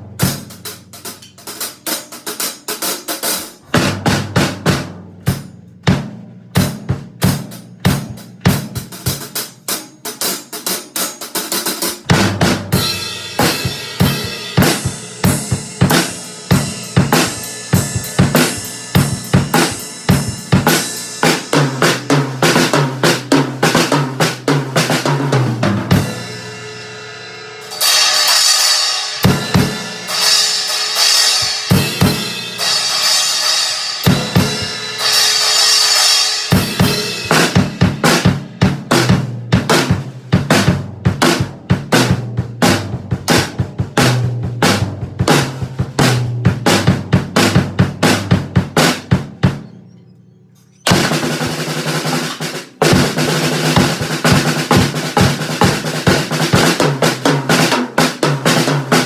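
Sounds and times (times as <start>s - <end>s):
drum kit playing fast: 0.0s - 50.0s, 50.8s - 59.0s.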